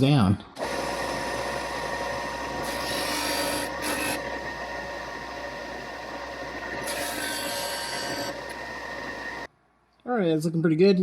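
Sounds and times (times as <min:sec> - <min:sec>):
power sander running: 0:00.6 - 0:09.5.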